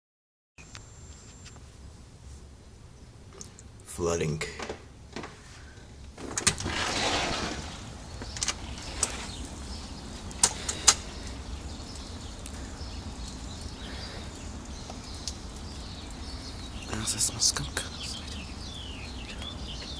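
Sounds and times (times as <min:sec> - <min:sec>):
low outdoor rumble: 0:01.7 - 0:19.9.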